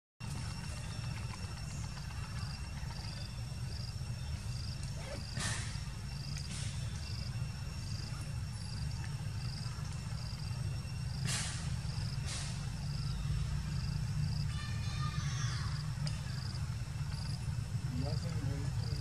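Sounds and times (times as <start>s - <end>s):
insect chirping: 0.2s - 19.0s.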